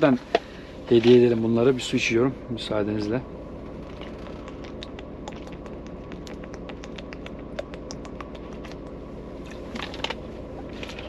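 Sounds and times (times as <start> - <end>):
truck cab hum: 0.0 - 11.0.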